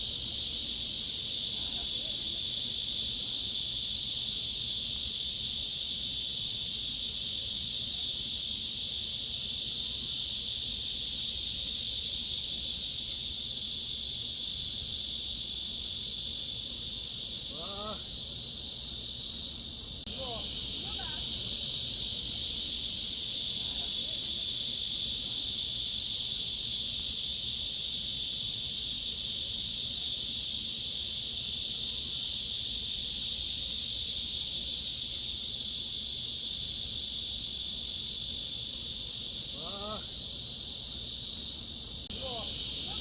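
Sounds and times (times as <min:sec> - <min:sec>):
cicada chorus buzzing: 0:00.0 - 0:43.0.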